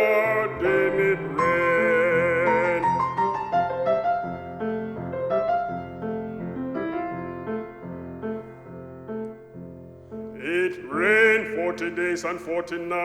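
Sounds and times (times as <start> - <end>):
solo piano playing: 0.0 - 13.0.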